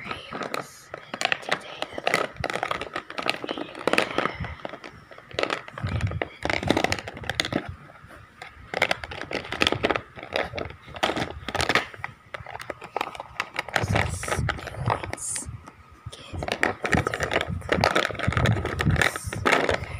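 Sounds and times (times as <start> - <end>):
crayons rattling in a box: 0.0 - 19.9.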